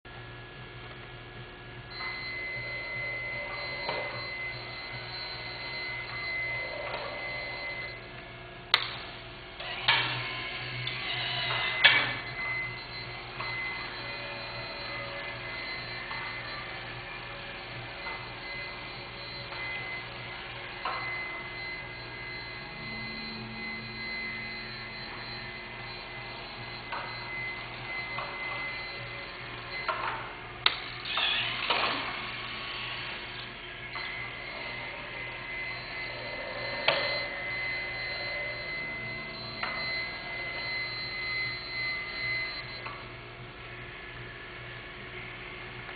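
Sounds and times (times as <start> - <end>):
steady hum: 0.1 - 45.9
motorized mechanism whine: 0.2 - 45.9.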